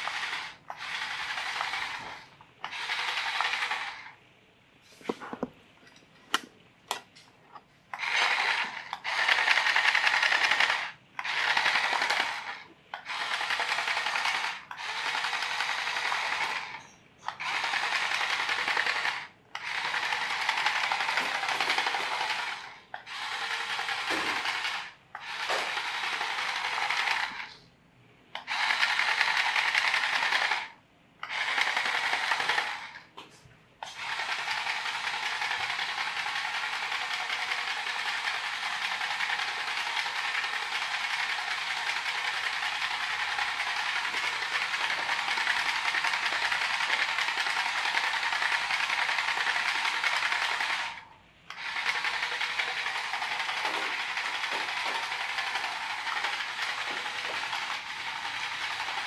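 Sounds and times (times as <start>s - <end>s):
toy motors whirring and rattling: 0.0s - 4.2s, 7.9s - 27.7s, 28.3s - 33.2s, 33.8s - 59.0s.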